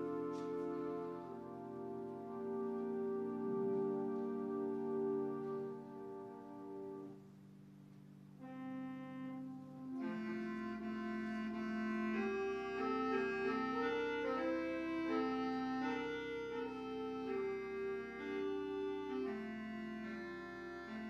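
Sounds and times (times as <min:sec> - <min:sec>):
church organ chords: 0:00.0 - 0:07.3, 0:08.4 - 0:21.0.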